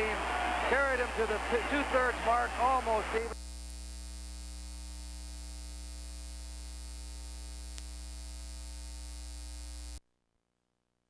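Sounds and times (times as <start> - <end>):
electrical mains hum: 0.0 - 10.0
tape hiss: 0.0 - 10.0.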